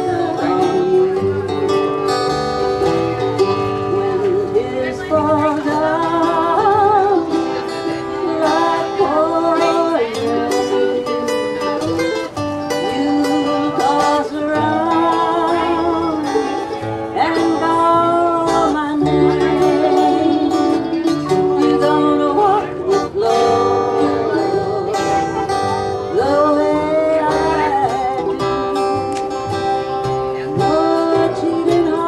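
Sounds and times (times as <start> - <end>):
acoustic string band playing: 0.0 - 32.0.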